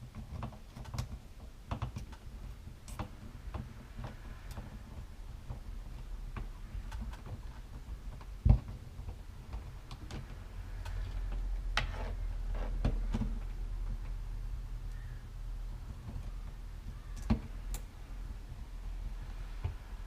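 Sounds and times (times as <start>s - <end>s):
clicks of wire nuts and wiring: 0.0s - 14.2s, 15.9s - 18.0s.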